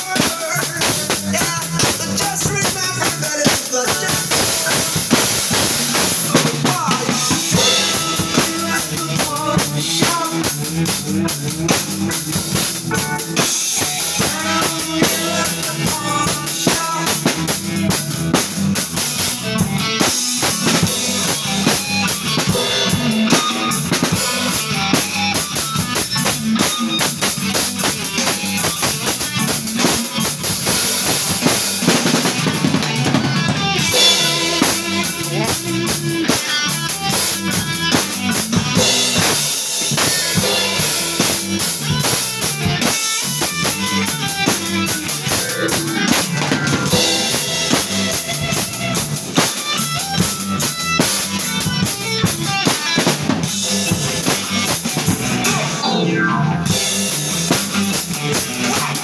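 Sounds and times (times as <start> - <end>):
drum kit playing: 0.0 - 59.0.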